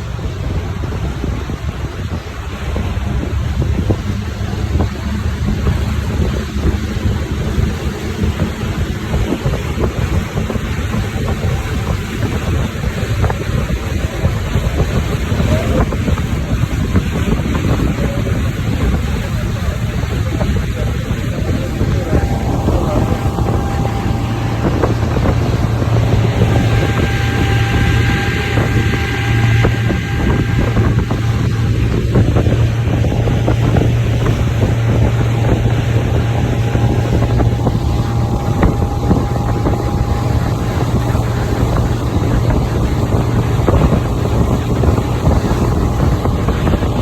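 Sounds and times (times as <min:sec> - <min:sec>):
boat motor humming: 0:00.0 - 0:47.0
wind buffeting microphone: 0:00.0 - 0:47.0.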